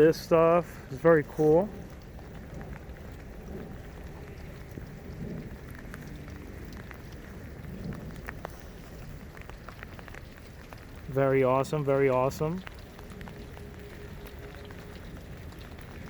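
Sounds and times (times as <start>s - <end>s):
sharp raindrop ticks: 0.0s - 16.0s
steady rain falling: 0.0s - 16.0s.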